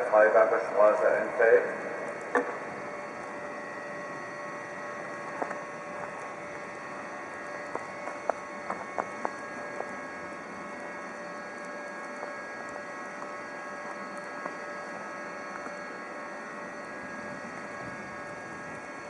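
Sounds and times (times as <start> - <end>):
distant locomotive hum: 0.0 - 19.0.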